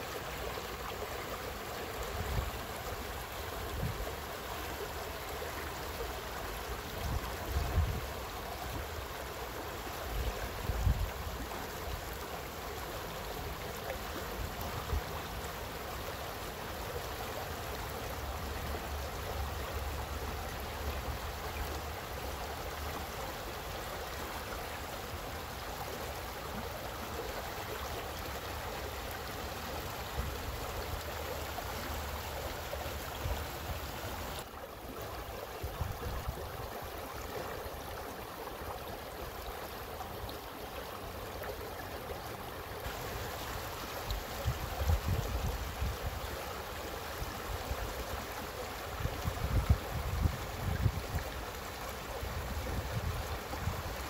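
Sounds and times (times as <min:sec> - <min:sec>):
stream flowing over stones: 0:00.0 - 0:54.0.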